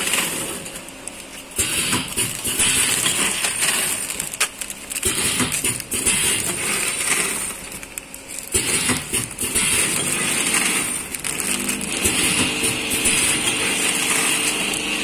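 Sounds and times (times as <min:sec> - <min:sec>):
faint packing machine hum: 0:00.0 - 0:15.0
plastic bags crinkling: 0:00.0 - 0:15.0.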